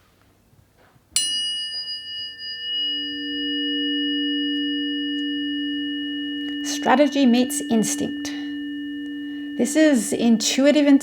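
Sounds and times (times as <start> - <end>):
tuning fork ringing: 1.2 - 11.0.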